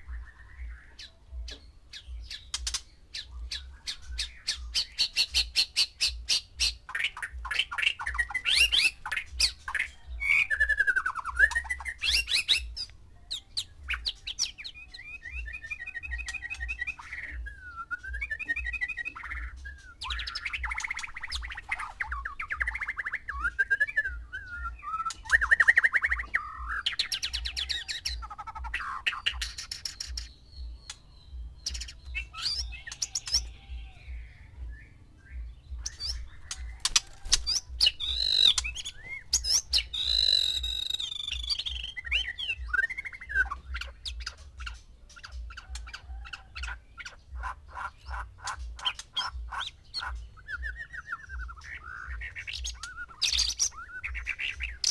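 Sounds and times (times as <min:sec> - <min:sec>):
bird singing whistled phrases and trills: 0:00.0 - 0:54.9.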